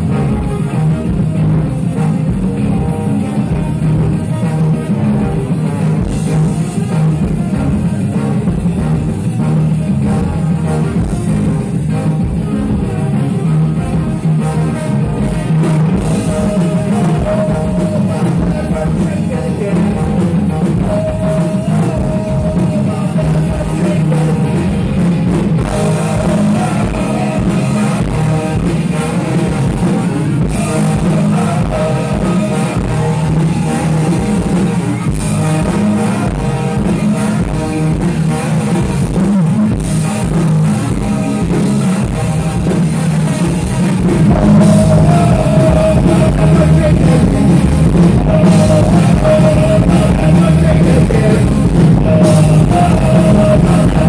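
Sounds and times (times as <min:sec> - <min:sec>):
drums: 0:00.0 - 0:54.0
electric guitar: 0:00.0 - 0:54.0
saxophone: 0:00.0 - 0:54.0
trombone: 0:00.0 - 0:54.0
trumpet: 0:00.0 - 0:54.0.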